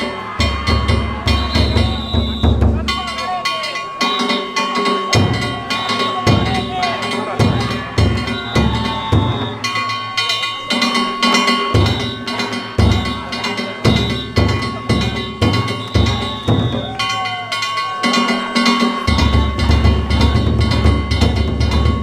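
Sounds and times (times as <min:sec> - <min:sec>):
big taiko drum beating: 0:00.0 - 0:22.0
small metal gongs clanging: 0:00.0 - 0:22.0.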